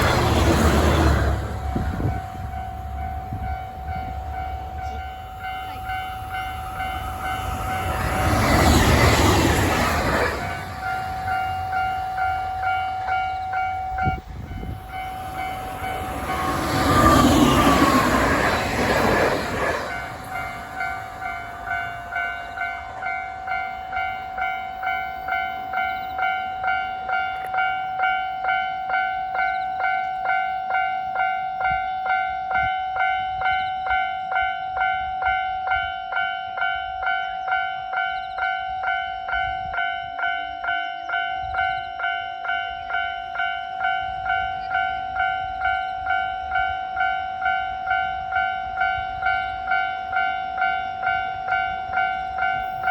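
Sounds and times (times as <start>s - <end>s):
level crossing warning bell: 0.0s - 52.9s
train passing: 0.0s - 52.9s.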